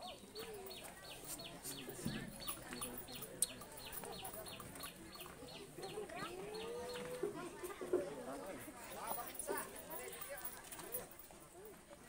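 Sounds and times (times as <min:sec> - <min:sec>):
faint voices: 0:00.0 - 0:12.0.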